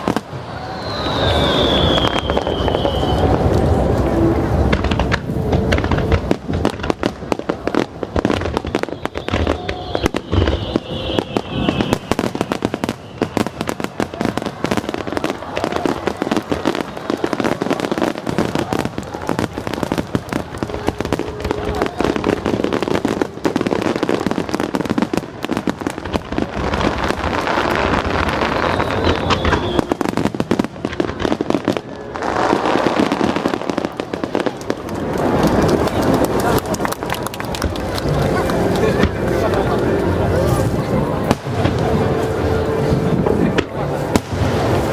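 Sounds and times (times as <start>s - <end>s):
fireworks crackling and bursting: 0.0s - 44.9s.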